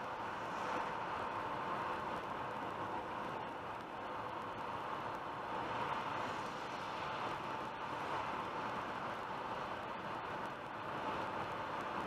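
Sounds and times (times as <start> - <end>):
car road and tyre noise: 0.0 - 12.0.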